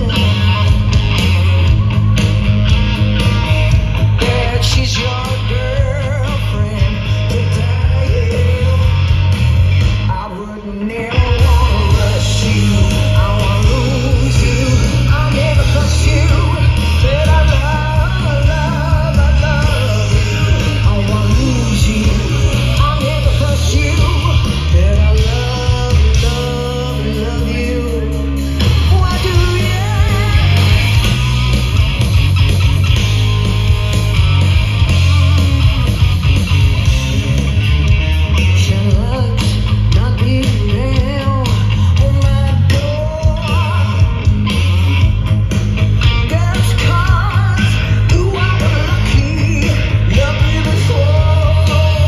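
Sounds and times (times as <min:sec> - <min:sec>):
drums: 0:00.0 - 0:52.0
lead singer: 0:00.0 - 0:52.0
rock band playing live: 0:00.0 - 0:52.0.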